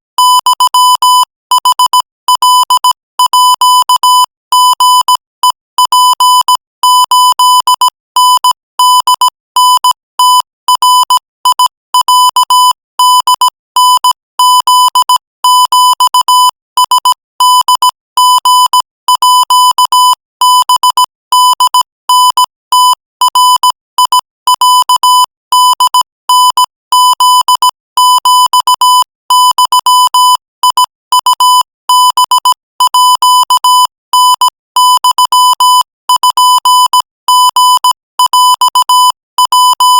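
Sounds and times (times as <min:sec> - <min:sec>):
morse code beeps: 0:00.2 - 0:39.9.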